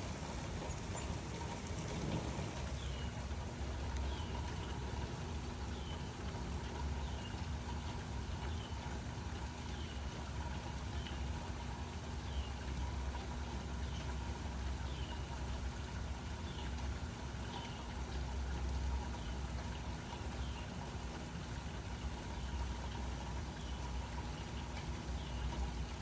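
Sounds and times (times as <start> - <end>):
steady rain hissing: 0.0 - 26.0.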